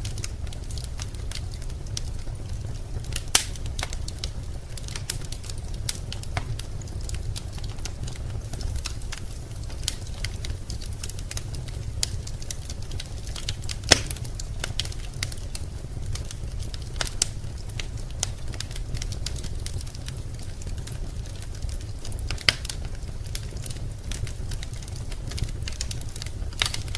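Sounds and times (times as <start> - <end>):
low fire rumble: 0.0 - 26.9
wood fire crackling: 0.0 - 26.9.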